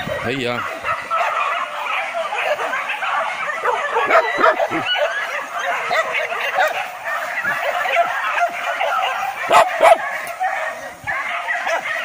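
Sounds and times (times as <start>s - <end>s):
dogs yelping and baying: 0.0s - 12.0s.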